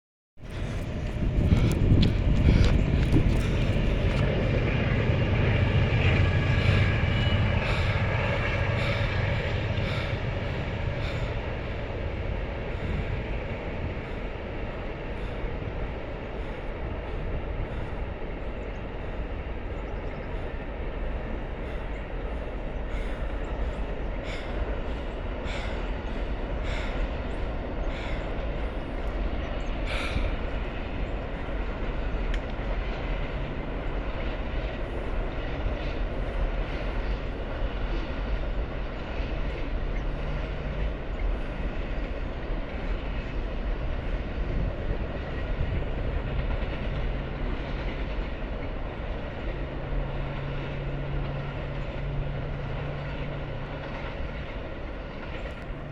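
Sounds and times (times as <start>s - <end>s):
passenger train passing: 0.4s - 55.9s.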